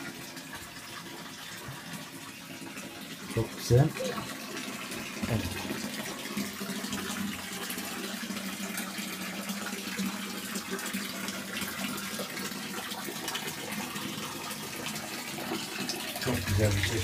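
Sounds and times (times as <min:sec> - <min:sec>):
fountain water running: 0:00.0 - 0:17.0.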